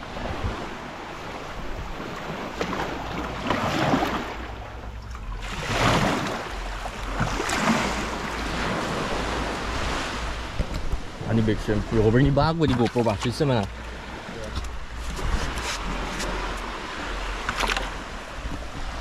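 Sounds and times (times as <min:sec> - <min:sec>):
seawater sloshing at shoreline: 0:00.0 - 0:19.0
wind rumbling on microphone: 0:00.0 - 0:19.0.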